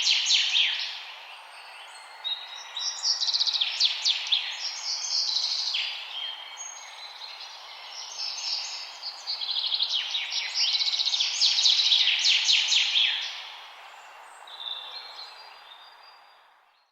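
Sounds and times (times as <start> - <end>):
small birds chirping and trilling: 0.0 - 16.9.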